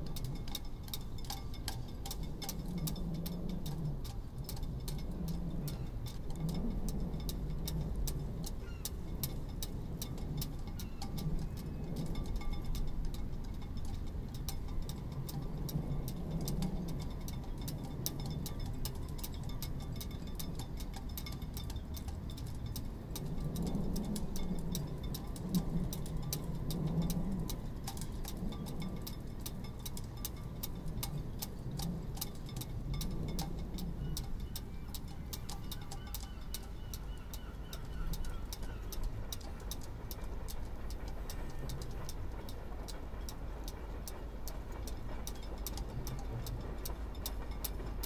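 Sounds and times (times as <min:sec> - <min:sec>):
low wind rumble: 0:00.0 - 0:48.0.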